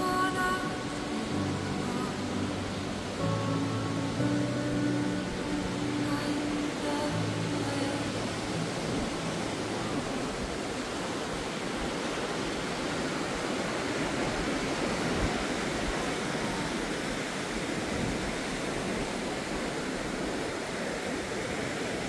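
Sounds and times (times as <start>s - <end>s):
ocean surf rushing: 0.0s - 22.0s.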